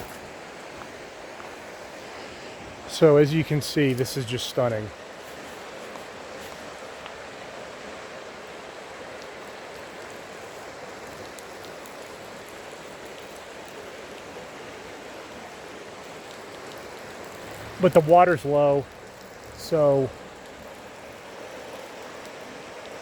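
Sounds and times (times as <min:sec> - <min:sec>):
waterfall stream rushing: 0:00.0 - 0:23.0.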